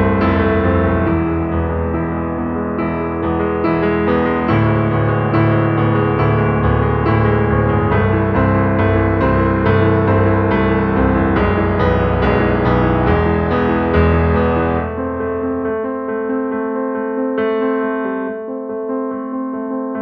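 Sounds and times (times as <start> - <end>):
piano background music: 0.0 - 20.0.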